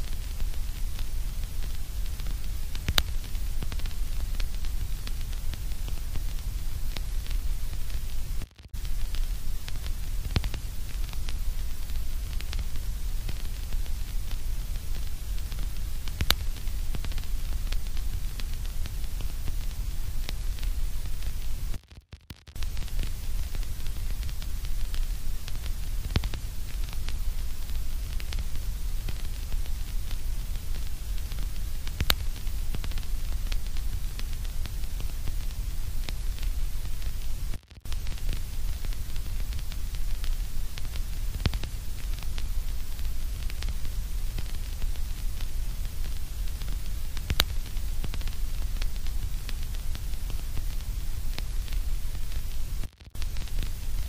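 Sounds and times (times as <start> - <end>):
thin hiss: 0.0 - 21.8, 22.6 - 54.0
small crackles: 0.0 - 54.0.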